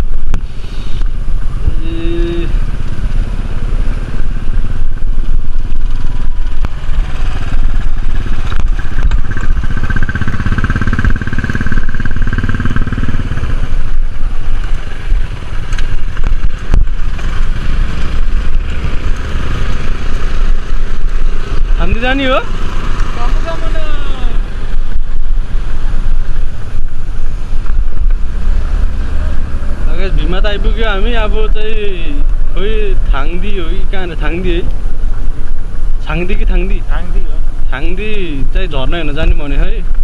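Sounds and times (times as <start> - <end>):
high engine whine: 0.0 - 40.0
vehicle engine running: 0.0 - 40.0.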